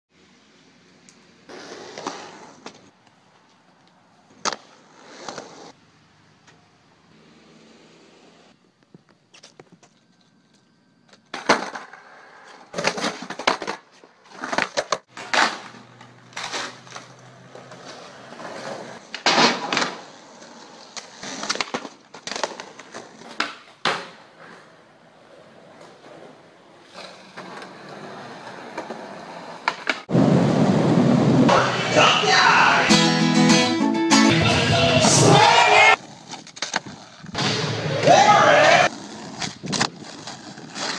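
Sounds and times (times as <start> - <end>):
skateboard wheels rolling on pavement: 0.2 - 32.7, 34.7 - 40.9.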